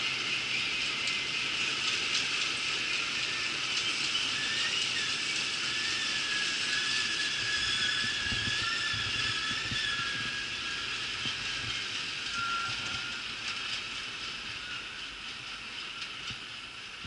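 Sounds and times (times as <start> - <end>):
high squeal of wheels: 0.0 - 17.0
train wheels rushing on rails: 0.0 - 17.0.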